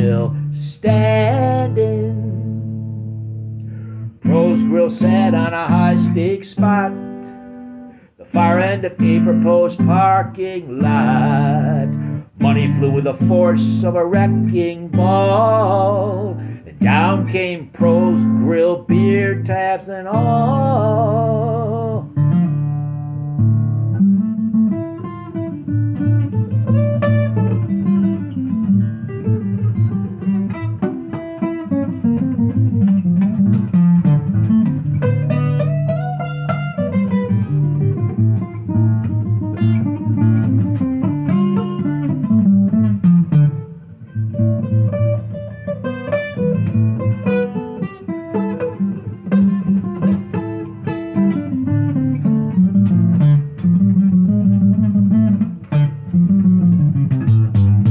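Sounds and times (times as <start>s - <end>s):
acoustic guitar playing: 0.0s - 57.9s.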